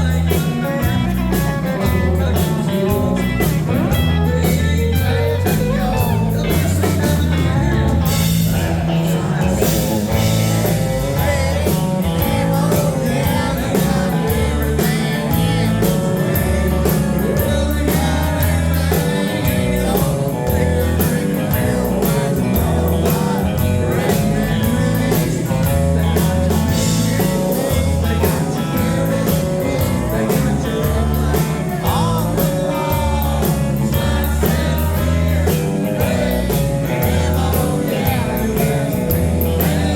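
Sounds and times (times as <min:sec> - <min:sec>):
bass line: 0:00.0 - 0:39.9
drums: 0:00.0 - 0:39.9
electric guitar: 0:00.0 - 0:39.9
person singing: 0:00.0 - 0:39.9.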